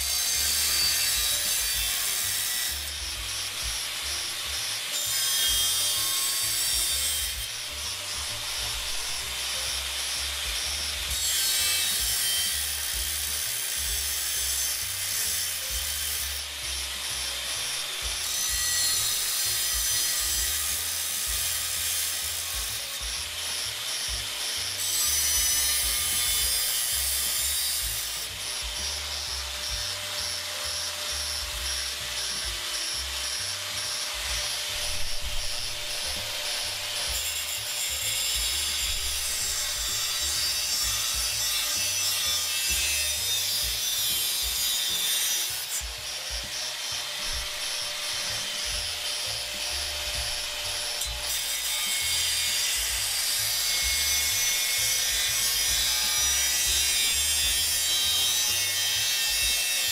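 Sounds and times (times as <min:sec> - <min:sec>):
angle grinder cutting metal: 0:00.0 - 0:59.9.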